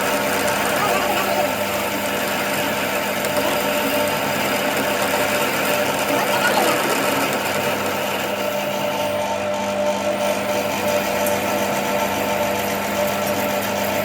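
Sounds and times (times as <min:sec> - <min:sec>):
machinery running: 0:00.0 - 0:14.0.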